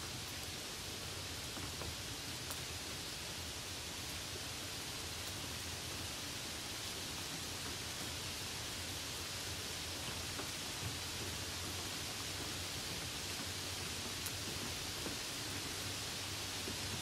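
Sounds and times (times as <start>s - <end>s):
light rain hissing: 0.0s - 17.0s
faint rain ticks: 0.1s - 17.0s.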